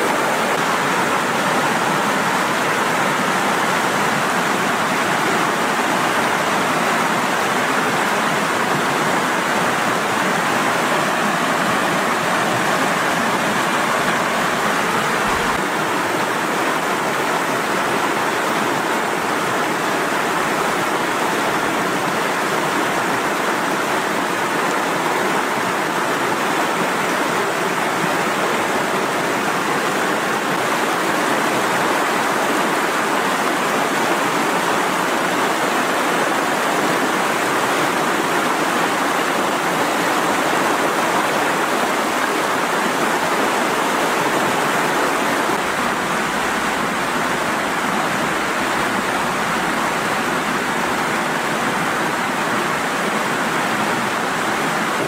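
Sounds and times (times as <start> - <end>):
river rapids rushing over rocks: 0.0 - 55.0.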